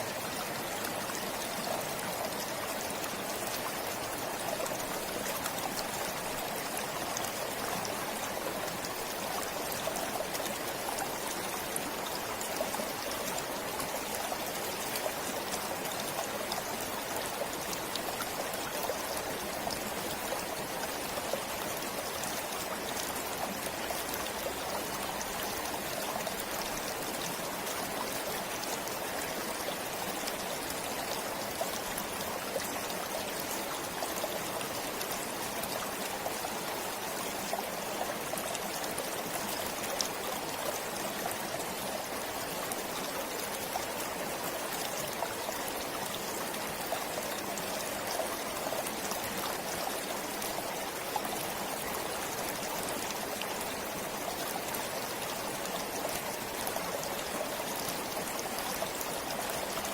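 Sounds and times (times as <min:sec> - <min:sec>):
stream flowing and trickling: 0:00.0 - 0:59.9.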